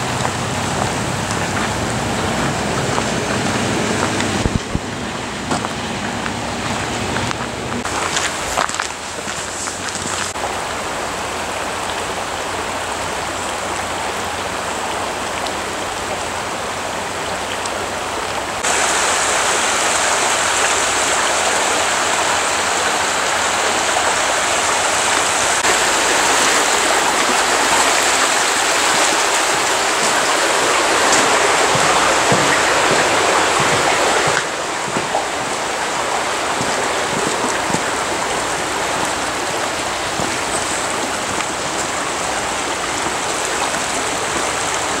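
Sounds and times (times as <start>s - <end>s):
rushing waterfall and creek: 0.0s - 45.0s.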